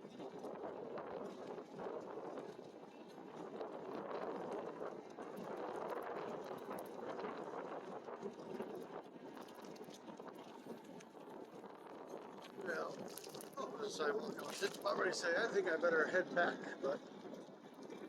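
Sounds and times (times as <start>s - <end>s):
wind on microphone: 0.0s - 15.2s.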